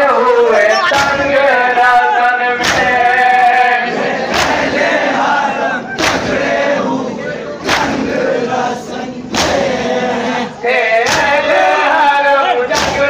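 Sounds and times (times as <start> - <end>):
men chanting together: 0.0 - 13.0
crowd beating chests in unison: 0.5 - 13.0.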